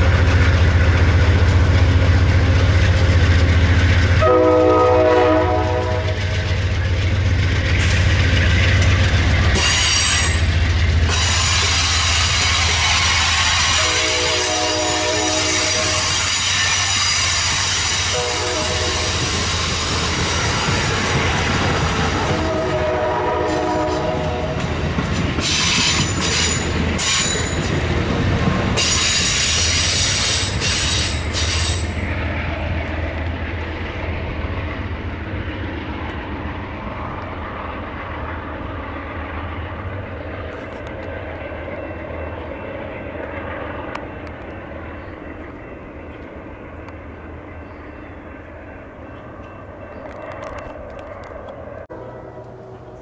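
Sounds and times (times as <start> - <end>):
train cars rolling on track: 0.0 - 53.0.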